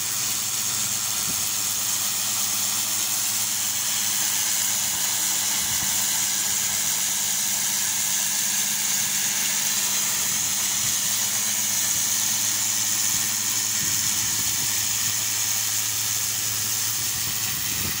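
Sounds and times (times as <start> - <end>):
motor and pump humming: 0.0 - 18.0
water jet hissing on stone: 0.0 - 18.0.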